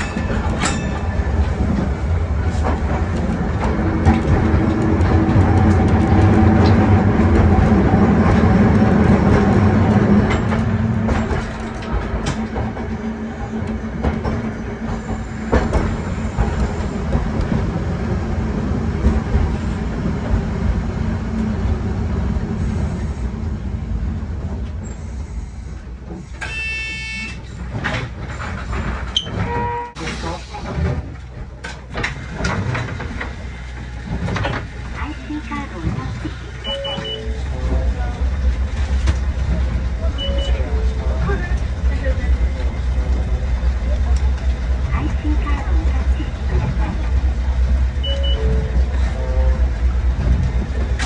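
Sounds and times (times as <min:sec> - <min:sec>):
tram motor hum: 0:00.0 - 0:51.0
wheels rumbling on rails: 0:00.0 - 0:51.0.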